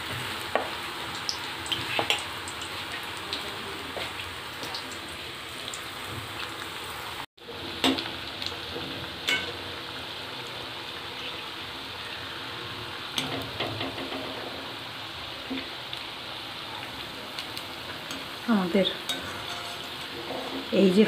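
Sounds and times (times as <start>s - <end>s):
deep-frying sizzle with crackles: 0.0s - 21.0s.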